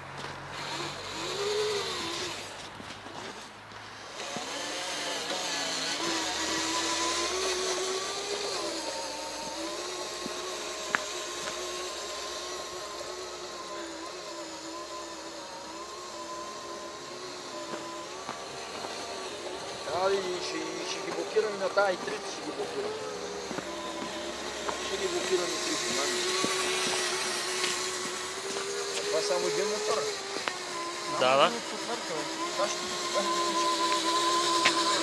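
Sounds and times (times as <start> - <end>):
toy truck motor whine: 0.2 - 35.0.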